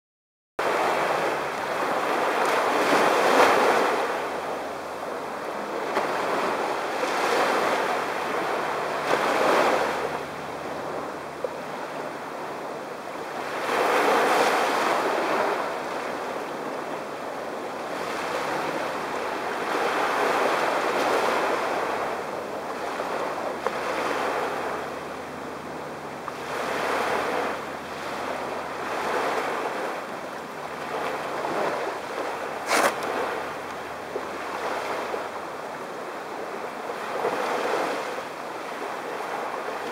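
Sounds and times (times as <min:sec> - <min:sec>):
small waves on a beach: 0:00.6 - 0:39.9.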